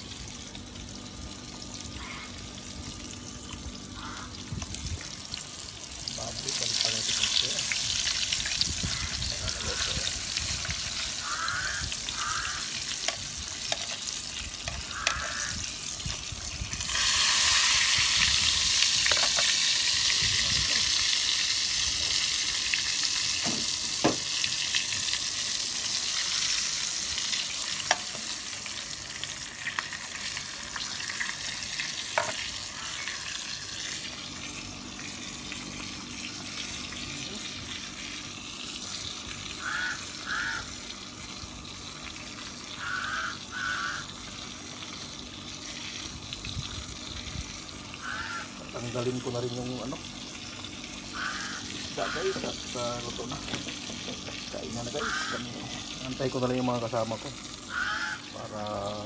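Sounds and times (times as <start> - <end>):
meat sizzling in fat: 0.0 - 59.0.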